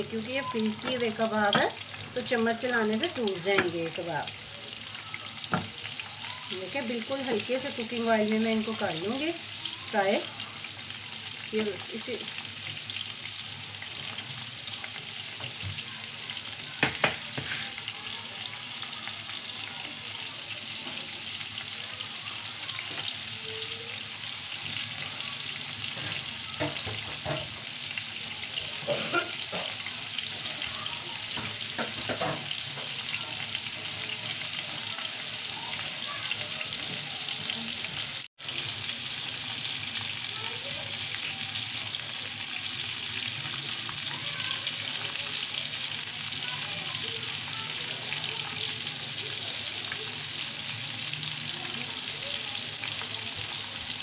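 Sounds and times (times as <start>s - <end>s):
meat sizzling in oil: 0.0s - 54.0s.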